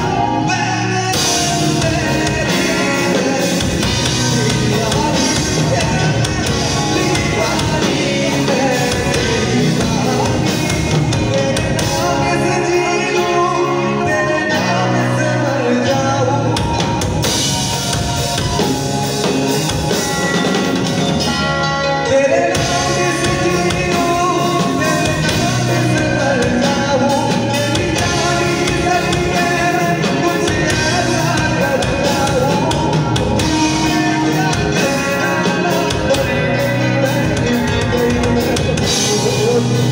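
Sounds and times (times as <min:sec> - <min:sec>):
man singing into a microphone: 0:00.0 - 0:17.3, 0:21.2 - 0:39.9
amplified rock band playing: 0:00.0 - 0:39.9.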